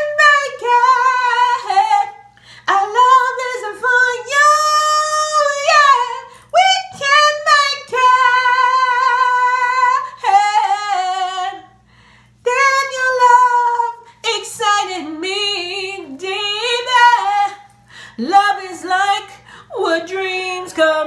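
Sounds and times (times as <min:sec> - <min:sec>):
woman singing soul: 0:00.0 - 0:21.0.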